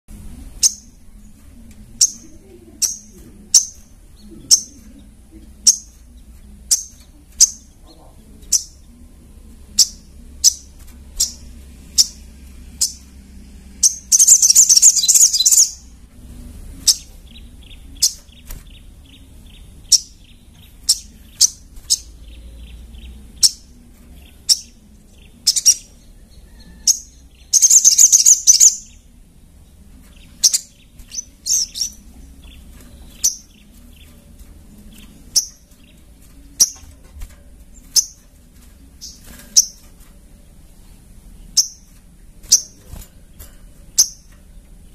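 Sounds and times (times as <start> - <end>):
bird rapid note runs: 0.1 - 44.9
bird chipping: 0.5 - 1.2, 1.8 - 9.0, 9.7 - 13.2, 13.8 - 16.0, 16.8 - 29.2, 30.1 - 37.0, 37.8 - 39.8, 41.4 - 43.0, 43.9 - 44.9.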